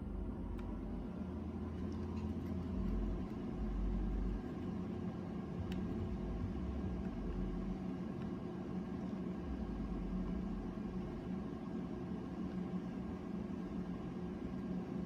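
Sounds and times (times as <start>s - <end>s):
soldering gun mains hum: 0.0s - 15.0s.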